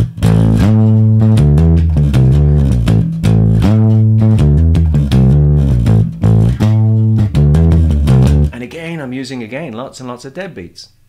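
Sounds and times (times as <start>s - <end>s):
electric bass guitar riff: 0.0s - 9.1s.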